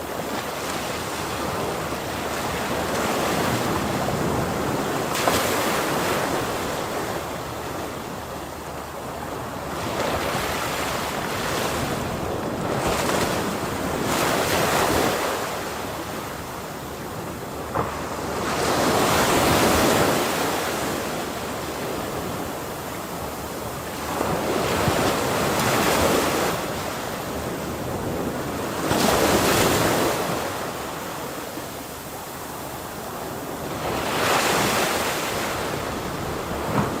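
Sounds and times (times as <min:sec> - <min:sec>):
ocean waves breaking: 0:00.0 - 0:37.0
wind on the microphone: 0:00.0 - 0:37.0.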